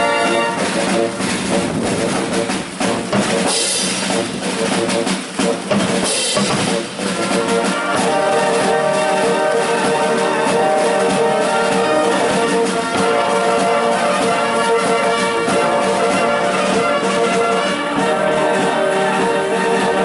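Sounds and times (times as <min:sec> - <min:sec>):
brass chords: 0:00.0 - 0:20.0
military band playing a march: 0:00.0 - 0:20.0.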